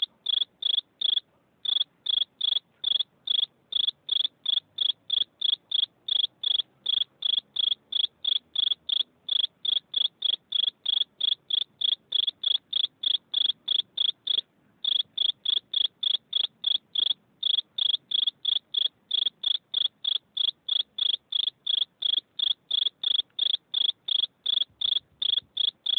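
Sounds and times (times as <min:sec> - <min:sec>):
cricket chirping: 0:00.0 - 0:25.9.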